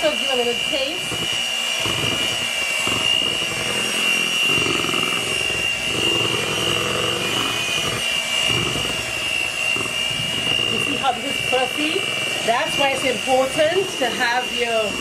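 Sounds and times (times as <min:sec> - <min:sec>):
electric mixer whining: 0:00.0 - 0:15.0.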